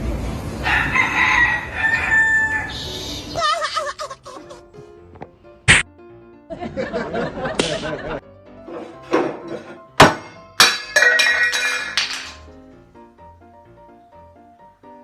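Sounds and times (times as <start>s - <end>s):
background music: 0.7s - 15.0s.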